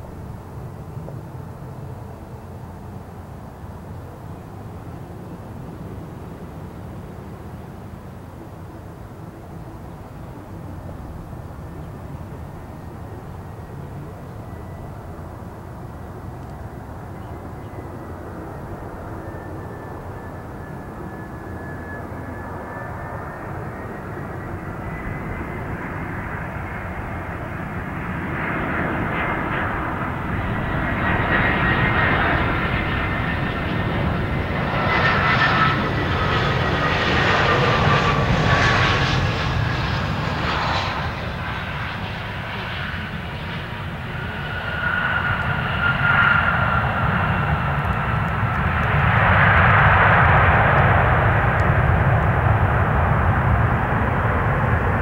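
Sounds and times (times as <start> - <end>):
jet engine whine and rumble: 0.0 - 55.0.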